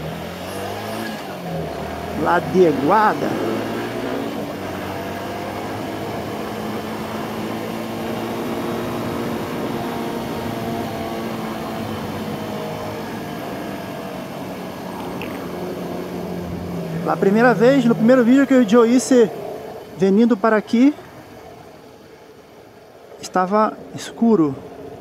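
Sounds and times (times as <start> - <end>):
motorcycle engine running: 0.0 - 23.1.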